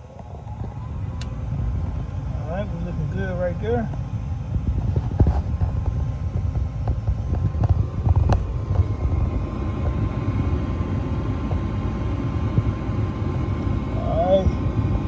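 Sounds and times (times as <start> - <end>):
furnace motor low rumble: 0.0 - 15.0.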